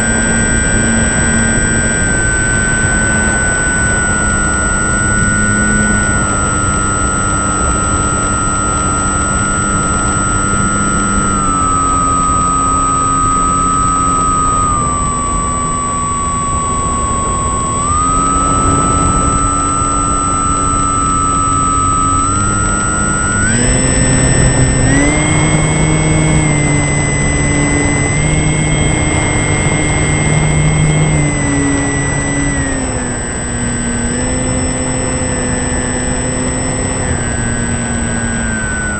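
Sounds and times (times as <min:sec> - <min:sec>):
engine drone with high whine: 0:00.0 - 0:38.9.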